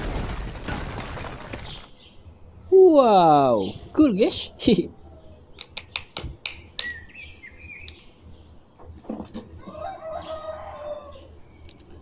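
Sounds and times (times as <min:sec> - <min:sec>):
birds chirping: 0:01.0 - 0:12.0.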